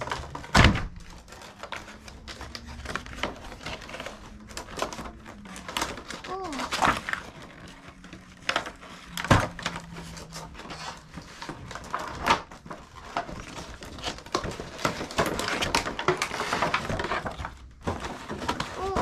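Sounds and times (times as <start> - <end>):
packaging rustling: 0.0 - 19.0.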